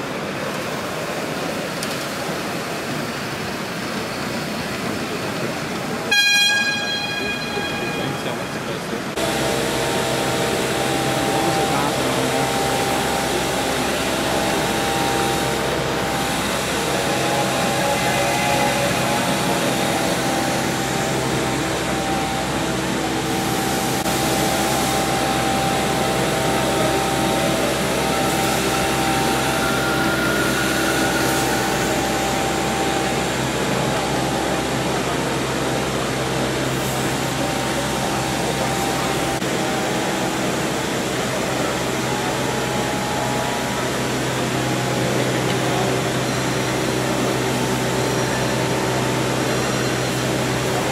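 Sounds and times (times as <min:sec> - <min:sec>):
exhibition hall hiss and hum: 0:00.0 - 0:50.9.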